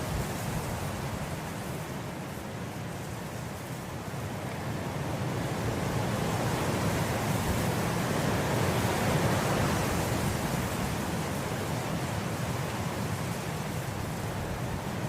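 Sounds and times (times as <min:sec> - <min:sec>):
wind blowing through grass: 0:00.0 - 0:15.0.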